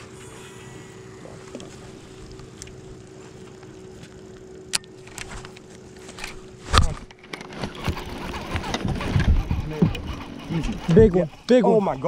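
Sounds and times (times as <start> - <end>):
electric trolling motor humming: 0.0 - 12.0.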